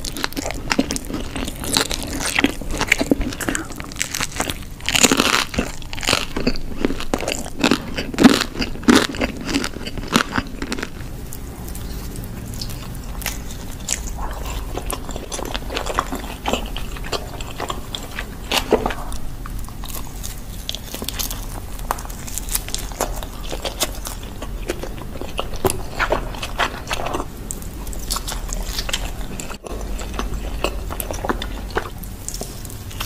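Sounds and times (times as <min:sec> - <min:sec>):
person chewing with wet mouth clicks: 0:00.0 - 0:33.0
pizza crust crunching: 0:00.0 - 0:33.0.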